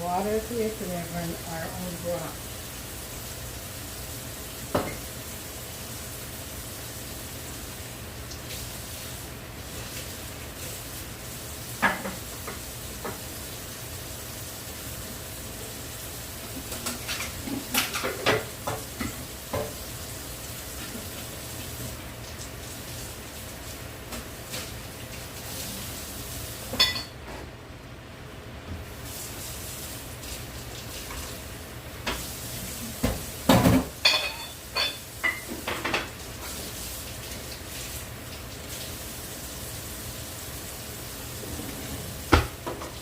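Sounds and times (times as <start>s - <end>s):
chicken sizzling in a pot: 0.0s - 27.2s, 28.9s - 41.4s.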